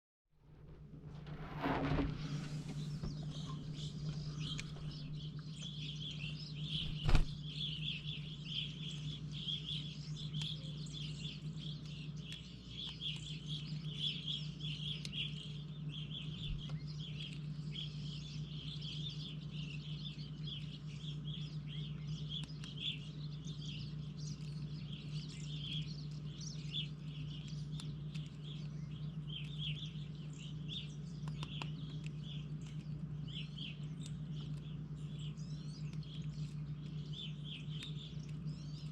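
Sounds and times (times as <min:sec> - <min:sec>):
steady low hum: 0:00.4 - 0:38.9
small birds chirping: 0:00.5 - 0:38.9.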